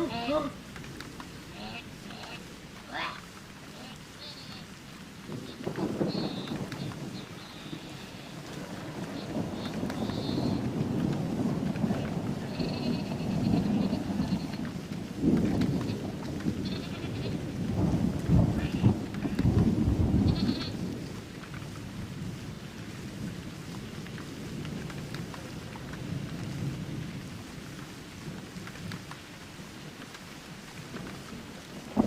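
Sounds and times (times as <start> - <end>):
steady rain: 0.0 - 32.0
thunder rumbling: 0.0 - 32.0.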